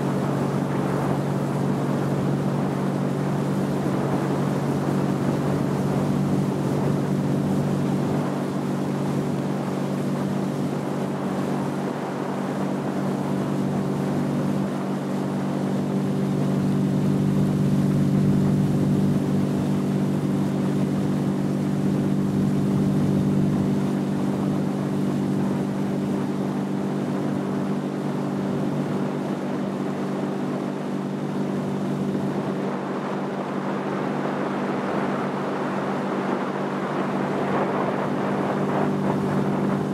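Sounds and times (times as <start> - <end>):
motorboat engine drone: 0.0 - 39.9
water and wind hiss: 0.0 - 39.9.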